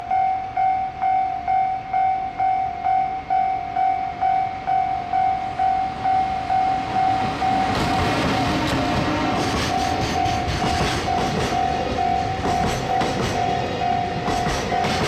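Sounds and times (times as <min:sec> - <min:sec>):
approaching train: 0:00.0 - 0:15.0.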